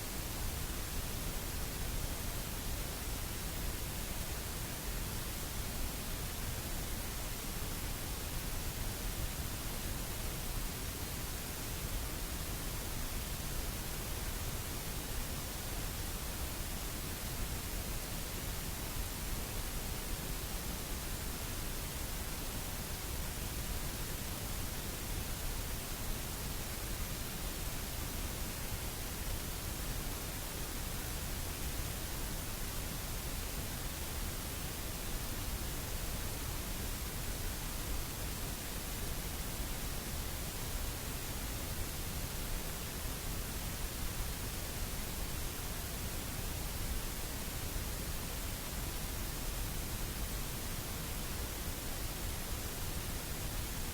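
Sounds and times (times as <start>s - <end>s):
steady static hiss: 0.0s - 53.9s.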